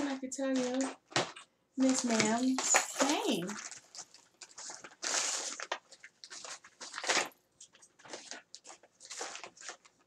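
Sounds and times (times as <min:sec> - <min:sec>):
bag rustling and crinkling: 0:00.5 - 0:10.0.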